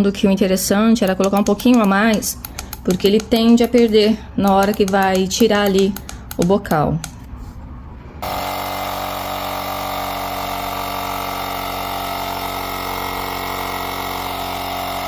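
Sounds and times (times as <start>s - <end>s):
mini air compressor droning: 1.0s - 6.5s, 8.2s - 15.0s.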